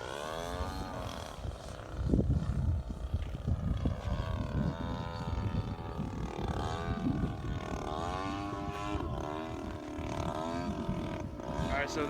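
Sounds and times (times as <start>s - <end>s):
model plane engine droning: 0.0s - 12.0s
wind rumble on microphone: 0.4s - 12.0s.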